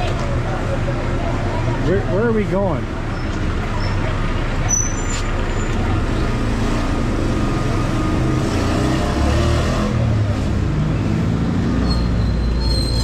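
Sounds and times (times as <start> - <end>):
bus engine rumbling: 0.0 - 13.0
cars passing: 0.0 - 13.0.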